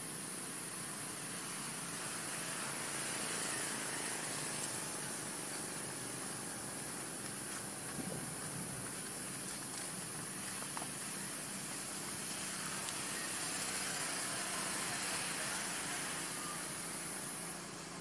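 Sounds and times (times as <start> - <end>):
even hiss: 0.0 - 18.0.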